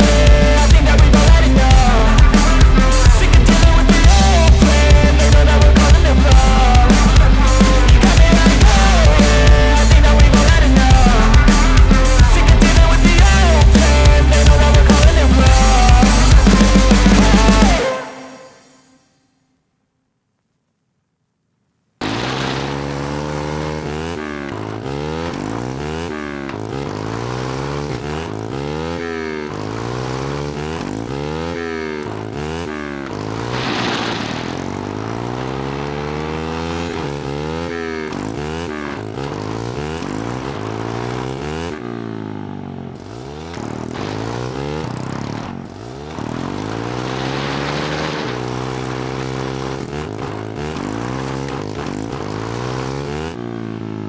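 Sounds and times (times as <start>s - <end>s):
small engine revving: 0.0s - 18.8s, 22.0s - 54.0s.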